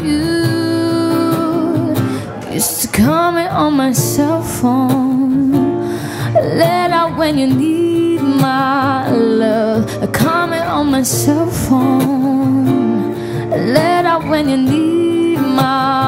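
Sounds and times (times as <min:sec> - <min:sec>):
acoustic guitar: 0:00.0 - 0:16.0
woman singing pop melody: 0:00.0 - 0:16.0.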